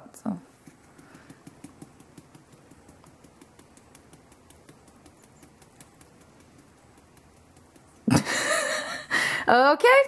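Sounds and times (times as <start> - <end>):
shaker tapping: 0.5 - 9.3.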